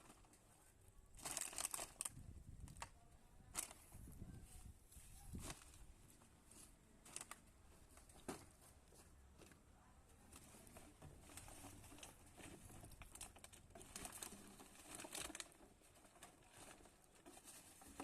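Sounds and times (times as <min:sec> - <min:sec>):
faint rustles and clicks: 0:00.0 - 0:18.0.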